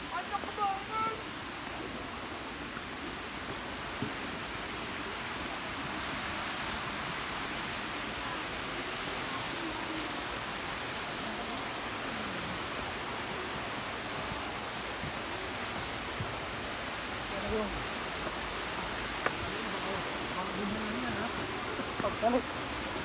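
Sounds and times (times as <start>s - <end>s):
water flowing: 0.0s - 23.0s.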